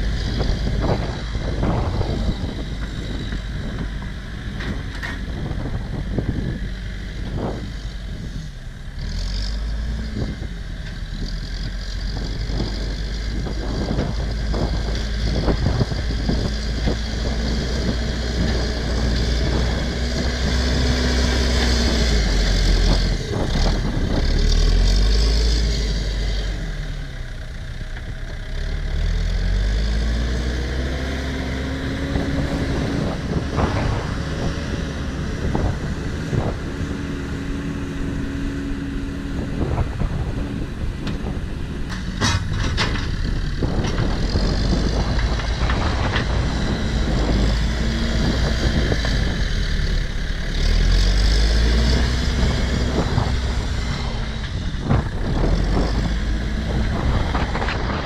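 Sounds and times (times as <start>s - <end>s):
backhoe diesel engine working: 0.0s - 58.0s.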